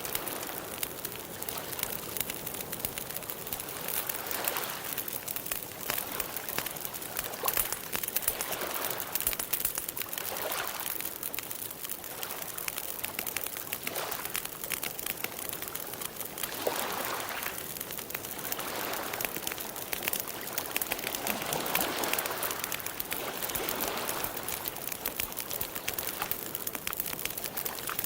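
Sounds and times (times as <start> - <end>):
campfire crackling and popping: 0.0 - 28.0
gentle water sound: 0.0 - 28.0.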